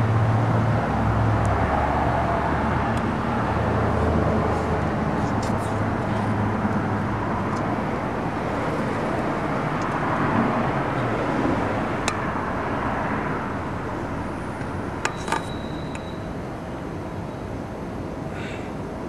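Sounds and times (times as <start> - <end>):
low rumble of distant traffic: 0.0 - 19.0.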